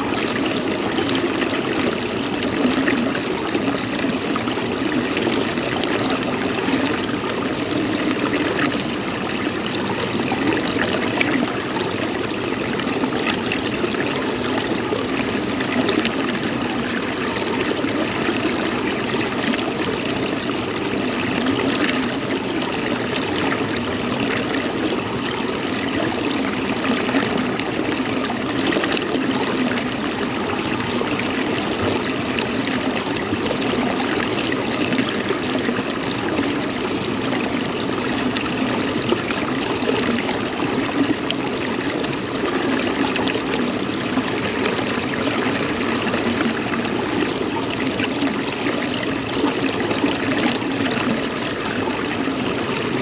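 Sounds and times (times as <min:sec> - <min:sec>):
running water trickling: 0:00.0 - 0:53.0.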